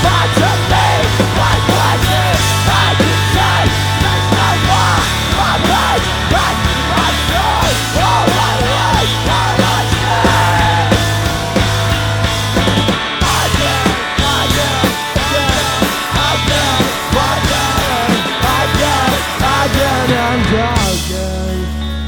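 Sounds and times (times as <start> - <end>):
rock band playing distorted music: 0.0 - 22.0.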